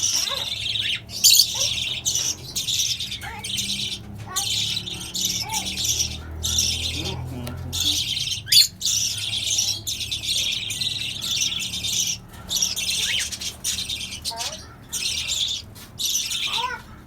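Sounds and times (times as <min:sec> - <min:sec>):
parrots chattering and squawking: 0:00.0 - 0:17.0.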